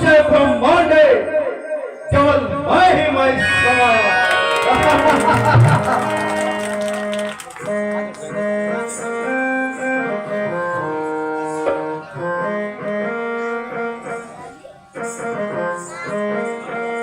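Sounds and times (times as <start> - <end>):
keyboard melody of held notes: 0.0 - 17.0.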